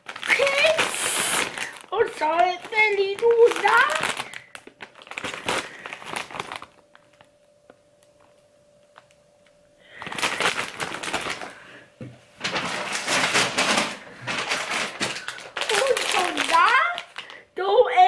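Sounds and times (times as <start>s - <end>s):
plastic snack bag crinkling: 0.0s - 9.2s, 9.8s - 11.8s, 12.4s - 17.6s.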